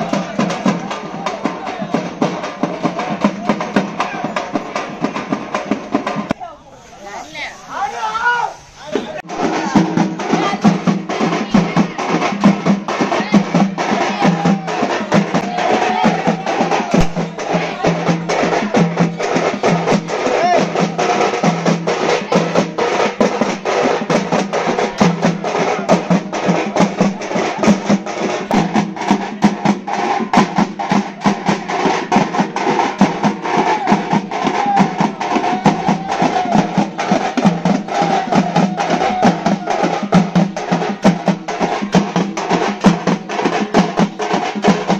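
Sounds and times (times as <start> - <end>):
frame drums beaten fast: 0.0 - 6.4, 8.9 - 44.9.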